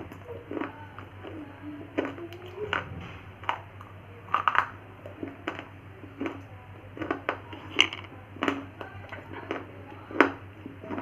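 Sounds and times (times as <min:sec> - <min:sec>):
crunching of chewing: 0:00.0 - 0:11.0.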